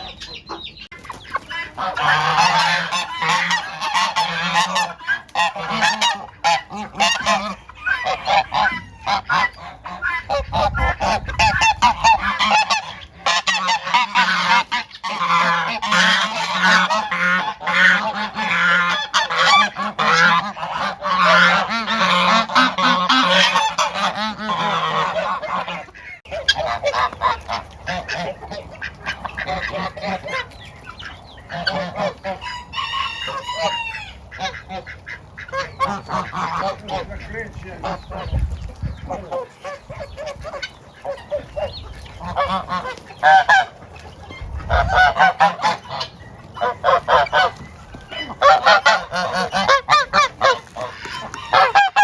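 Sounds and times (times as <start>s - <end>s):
geese honking: 0.0s - 52.0s.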